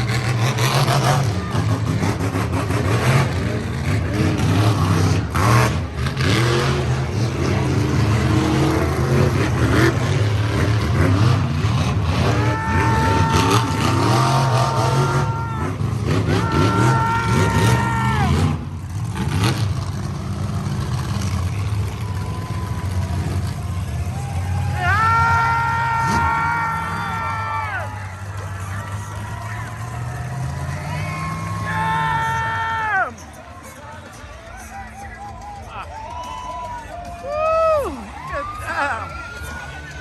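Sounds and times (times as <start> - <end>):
monster truck engines revving: 0.0 - 40.0.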